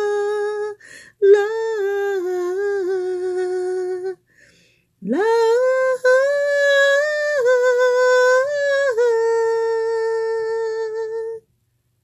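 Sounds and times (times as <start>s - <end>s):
woman singing a lullaby: 0.0s - 4.3s, 5.0s - 11.5s.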